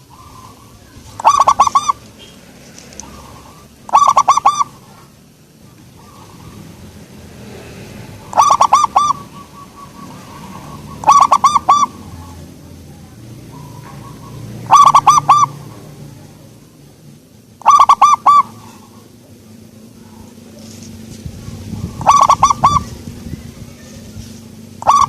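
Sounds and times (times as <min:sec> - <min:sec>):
dove cooing: 0:00.0 - 0:02.4, 0:03.0 - 0:16.3, 0:17.6 - 0:25.0.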